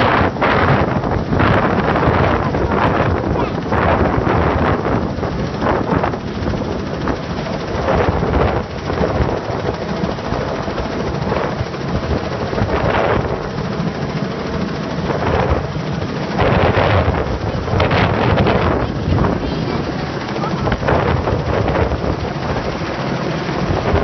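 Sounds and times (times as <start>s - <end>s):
helicopter engine: 0.0s - 24.0s
helicopter rotor chopping: 0.0s - 24.0s.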